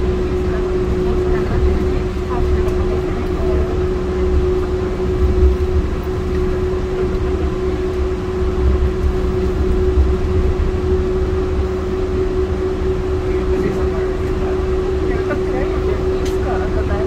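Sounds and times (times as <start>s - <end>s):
steady whine: 0.0s - 17.0s
train running on guideway: 0.0s - 17.0s.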